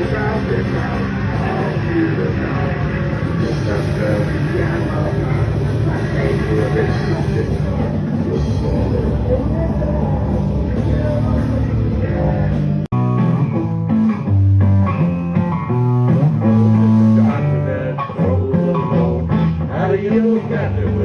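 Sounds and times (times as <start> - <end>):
bass guitar: 0.0 - 21.0
electric guitar: 0.0 - 21.0.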